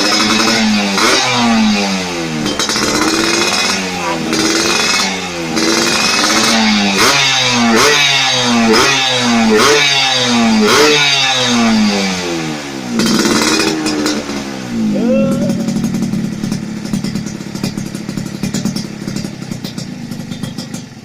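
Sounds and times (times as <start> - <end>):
engine revving in blips: 0.0 - 20.8.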